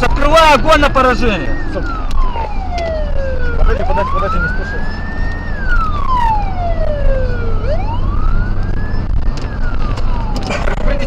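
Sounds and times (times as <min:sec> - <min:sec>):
low rumble of moving vehicle: 0:00.0 - 0:11.0
police siren wailing: 0:00.0 - 0:11.0.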